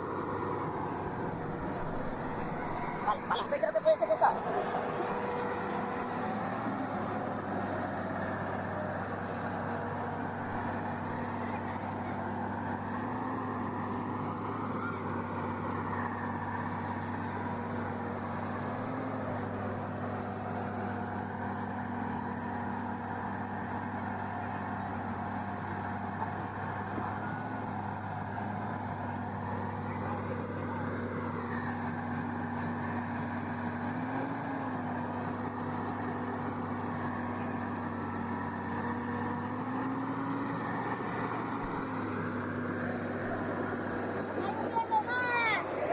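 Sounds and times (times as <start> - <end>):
heavy vehicle engine running: 0.0 - 45.9.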